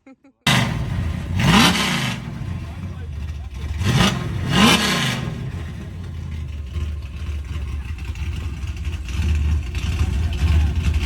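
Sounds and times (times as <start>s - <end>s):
car engine revving and idling: 0.5s - 11.0s.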